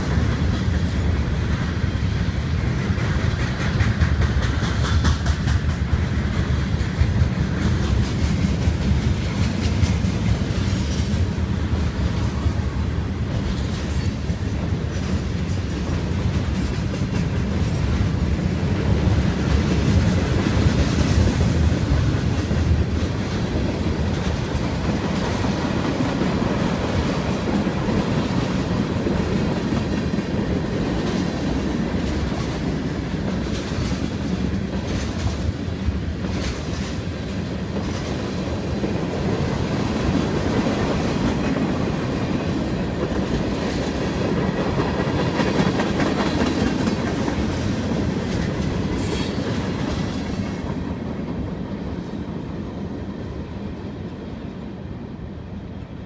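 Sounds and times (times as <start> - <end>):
freight train wheels clacking: 0.0 - 53.7.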